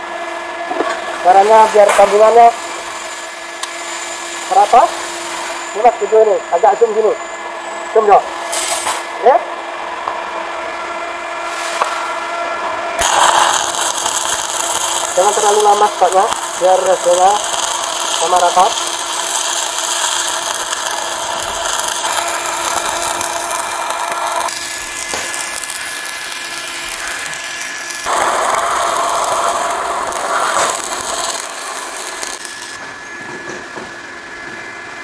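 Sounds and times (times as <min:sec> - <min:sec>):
welding arc crackling sizzle: 0:00.0 - 0:07.2, 0:08.0 - 0:09.3, 0:10.6 - 0:32.9.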